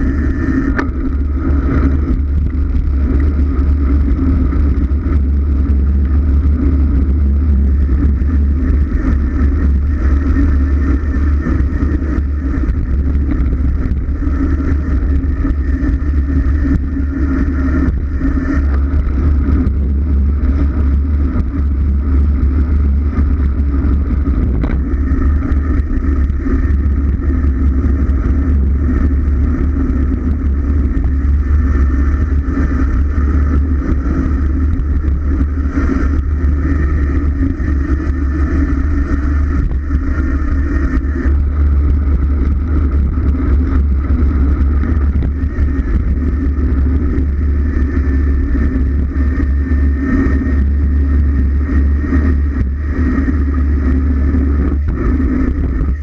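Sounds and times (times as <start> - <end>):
heavy low rumble: 0.0 - 56.0
wind buffeting microphone: 0.0 - 56.0.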